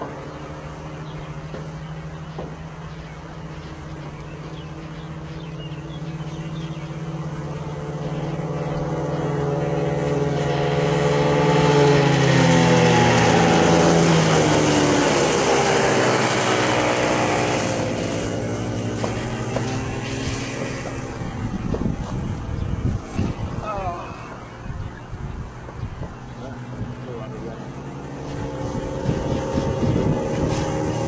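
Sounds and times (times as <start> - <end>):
kart engines passing by: 0.0 - 31.0.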